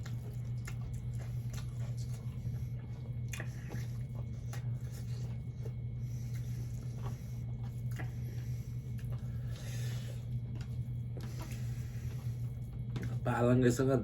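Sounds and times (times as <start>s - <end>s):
wet chewing and lip smacks: 0.0s - 13.2s
steady low hum: 0.0s - 14.0s.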